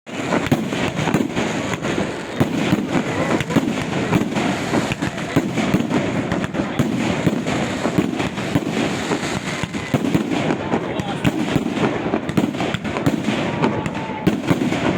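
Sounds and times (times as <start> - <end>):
firework bangs: 0.1 - 14.9
firework crackle: 0.1 - 14.9.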